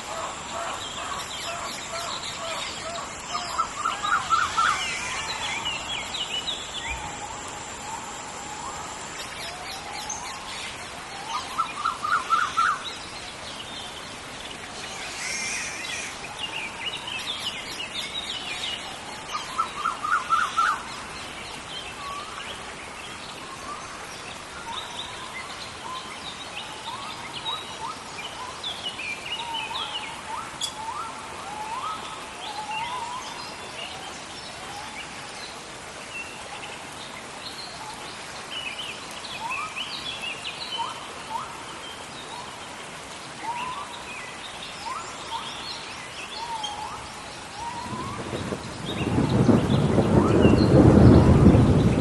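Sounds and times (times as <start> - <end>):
bird calls and chirps: 0.0 - 42.8, 43.4 - 52.0
rain hiss: 0.0 - 52.0.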